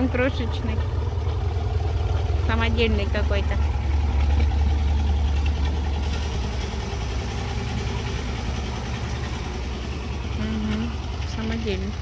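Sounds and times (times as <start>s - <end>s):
small tractor engine running: 0.0s - 12.0s.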